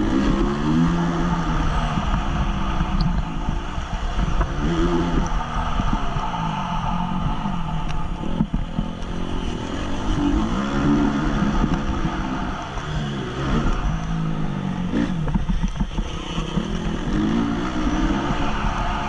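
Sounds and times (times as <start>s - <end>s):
motorcycle engine revving: 0.0s - 19.0s
rushing air: 0.0s - 19.0s.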